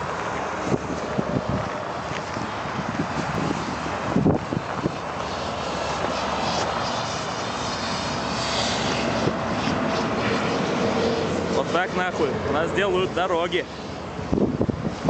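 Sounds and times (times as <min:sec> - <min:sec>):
road vehicle engine noise: 0:00.0 - 0:15.0.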